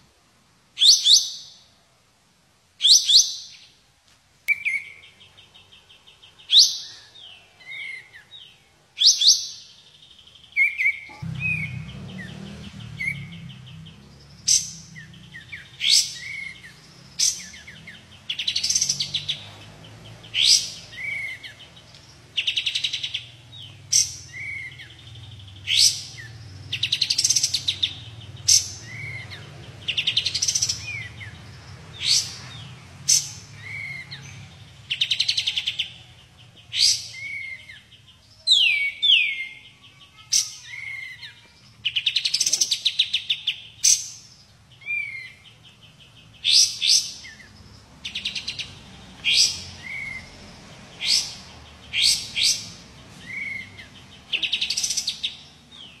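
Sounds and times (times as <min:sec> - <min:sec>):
songbird calling with trills: 0:00.8 - 0:01.7, 0:02.8 - 0:03.8, 0:04.5 - 0:56.0.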